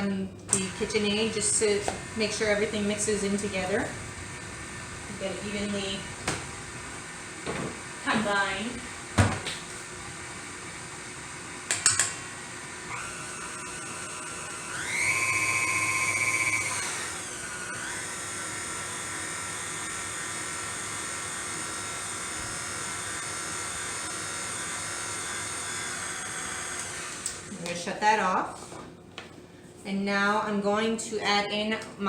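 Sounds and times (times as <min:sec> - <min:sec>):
stand mixer motor whine: 0:00.6 - 0:09.2, 0:09.8 - 0:27.6.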